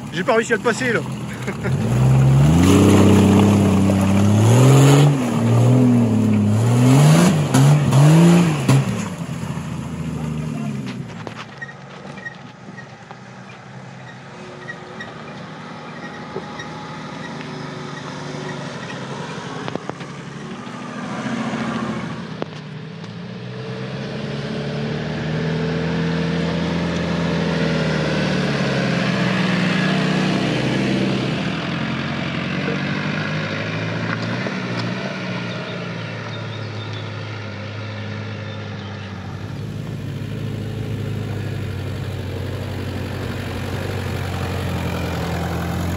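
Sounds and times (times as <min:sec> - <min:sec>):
off-road vehicle engine under load: 0:00.0 - 0:45.9.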